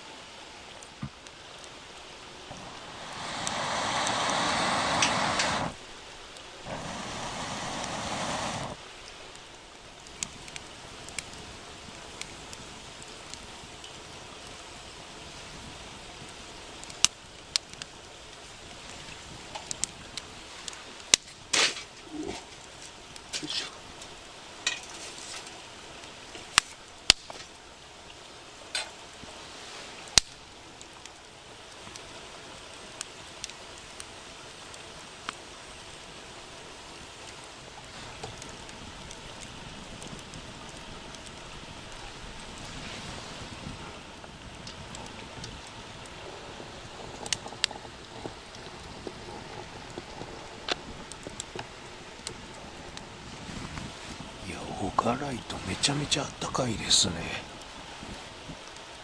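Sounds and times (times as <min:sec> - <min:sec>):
campfire hissing: 0:00.0 - 0:59.0
fire popping: 0:00.8 - 0:59.0.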